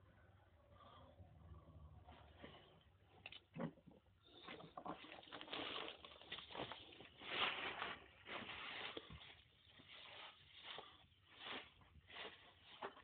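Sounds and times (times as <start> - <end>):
rustling and shuffling: 2.0 - 13.0.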